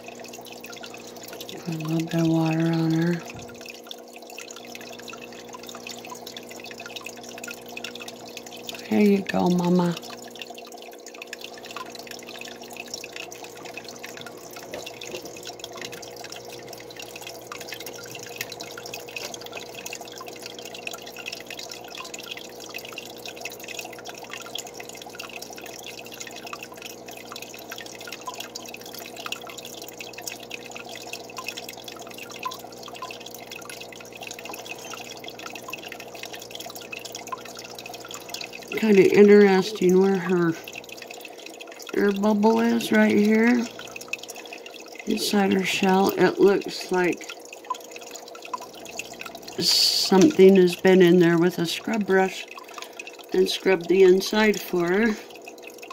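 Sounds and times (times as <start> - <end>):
faint hum: 0.0 - 55.9
water trickling and dripping: 0.0 - 55.9.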